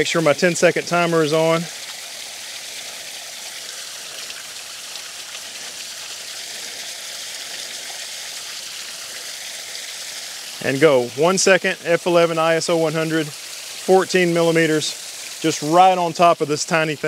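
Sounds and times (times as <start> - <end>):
small waterfall splashing over rocks: 0.0 - 17.0.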